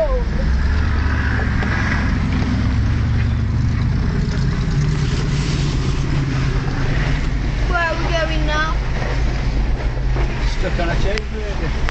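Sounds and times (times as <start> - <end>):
vehicle engine droning: 0.0 - 11.9.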